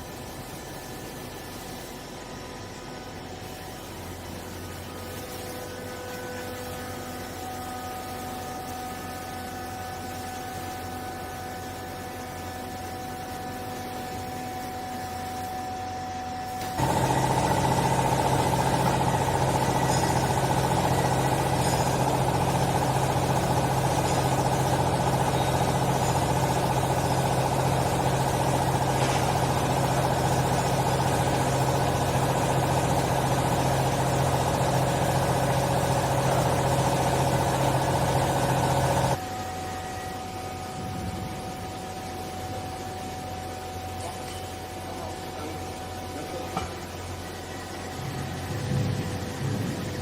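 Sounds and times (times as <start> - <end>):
electric motor and pump humming: 0.0 - 50.0.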